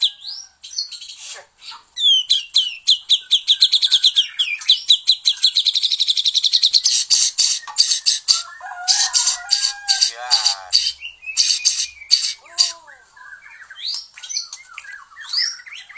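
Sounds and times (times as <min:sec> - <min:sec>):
bird singing: 0:00.0 - 0:15.9.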